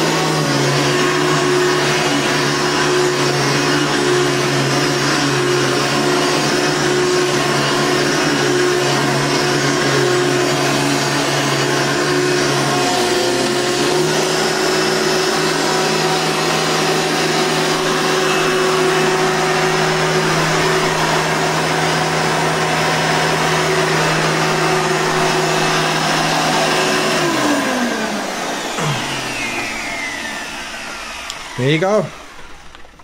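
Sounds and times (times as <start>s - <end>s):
vacuum cleaner motor whine: 0.0s - 33.0s.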